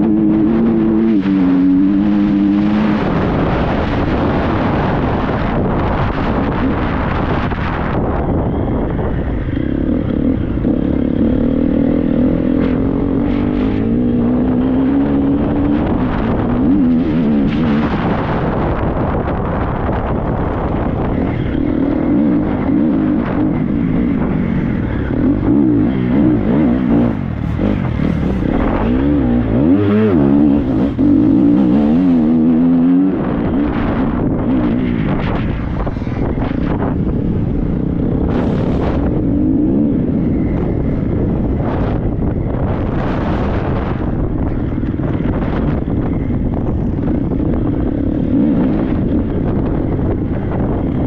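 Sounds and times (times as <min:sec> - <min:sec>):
motorcycle engine revving: 0:00.0 - 0:51.0
wind noise on microphone: 0:00.0 - 0:51.0.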